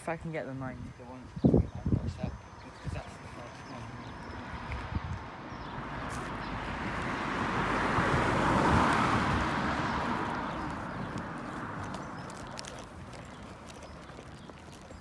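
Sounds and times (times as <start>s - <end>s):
road vehicle passing by: 2.5s - 15.0s.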